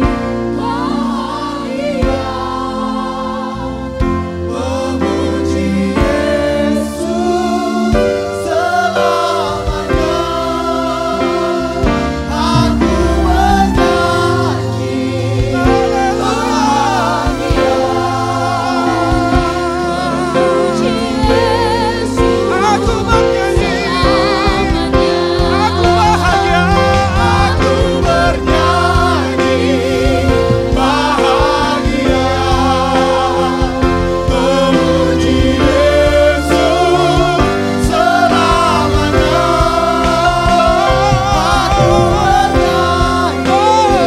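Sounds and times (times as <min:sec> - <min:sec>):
bass: 0:00.0 - 0:44.0
congregation singing: 0:00.0 - 0:44.0
steady drum beat: 0:00.0 - 0:44.0
worship singers with vibrato: 0:00.0 - 0:44.0.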